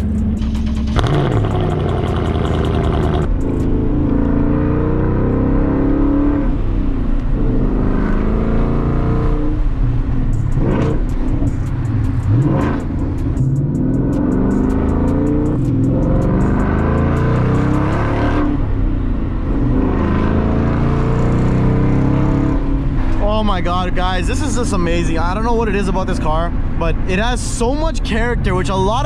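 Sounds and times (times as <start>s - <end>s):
car engine through loud exhaust: 0.0s - 29.0s.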